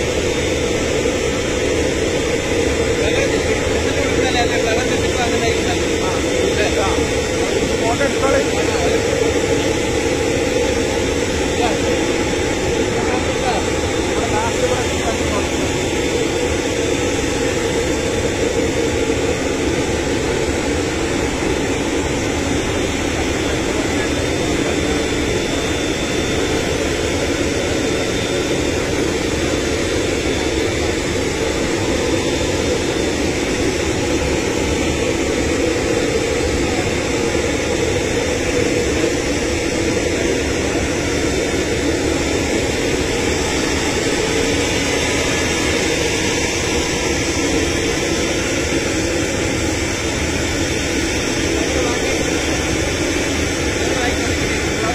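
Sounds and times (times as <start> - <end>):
aircraft turbine rush: 0.0 - 54.9
high turbine whine: 0.0 - 54.9.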